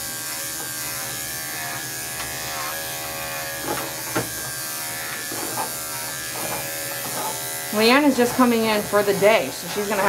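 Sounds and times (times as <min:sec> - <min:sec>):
electric hair clipper buzzing: 0:00.0 - 0:10.0.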